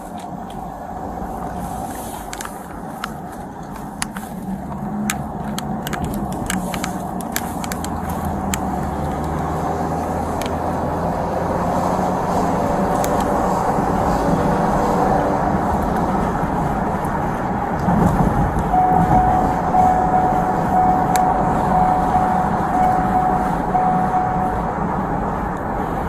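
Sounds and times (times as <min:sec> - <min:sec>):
motor vehicle rumble: 0:00.0 - 0:26.0.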